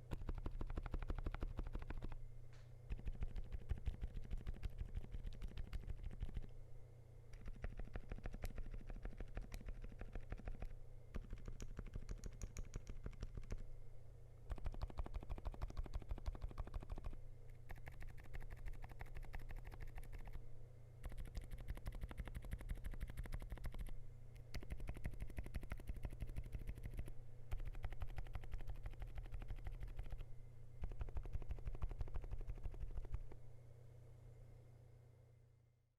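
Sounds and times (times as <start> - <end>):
fast typing on mechanical keyboard: 0.0 - 2.2, 2.9 - 6.5, 7.3 - 13.6, 14.5 - 20.4, 21.0 - 30.2, 30.8 - 33.3.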